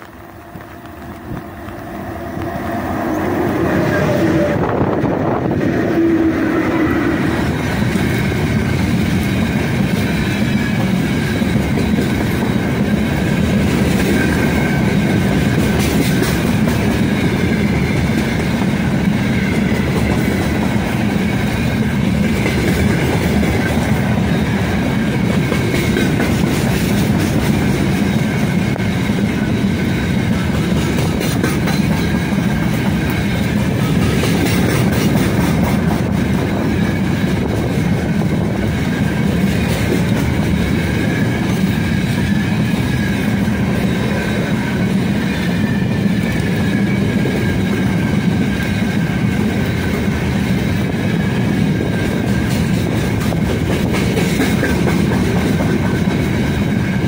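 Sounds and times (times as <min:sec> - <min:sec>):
electric locomotive whine: 0:00.0 - 0:57.0
train wheels rumbling on rails: 0:00.0 - 0:57.0.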